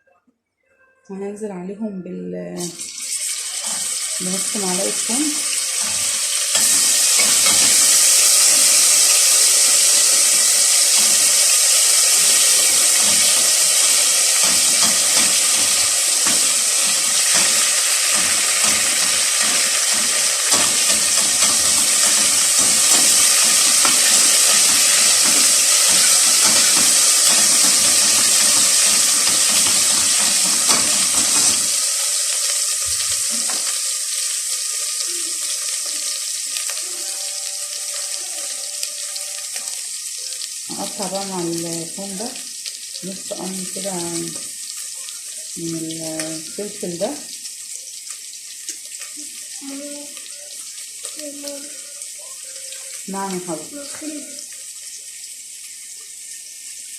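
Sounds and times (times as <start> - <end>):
garlic sizzling in a pan: 2.6 - 56.9.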